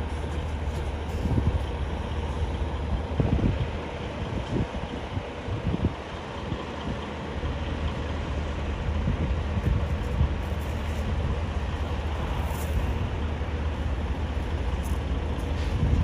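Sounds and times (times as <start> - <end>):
diesel truck engine humming: 0.0 - 16.0.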